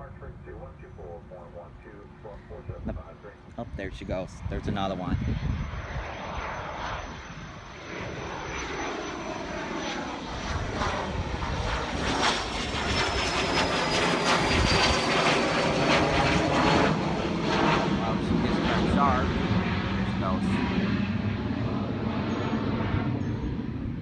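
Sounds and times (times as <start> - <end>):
airplane engines at takeoff: 0.0 - 24.0
high engine whine: 0.0 - 24.0.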